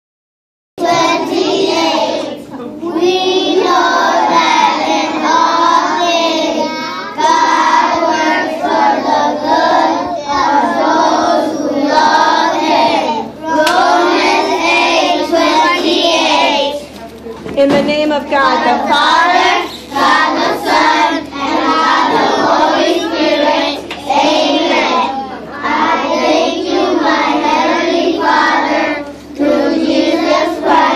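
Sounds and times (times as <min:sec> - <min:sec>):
children chanting in unison: 0:00.8 - 0:16.8, 0:18.5 - 0:30.9.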